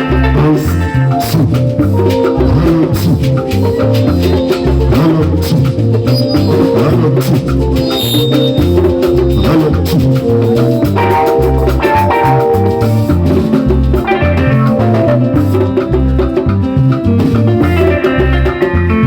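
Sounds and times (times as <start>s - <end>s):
instrumental music with beat: 0.0s - 19.0s.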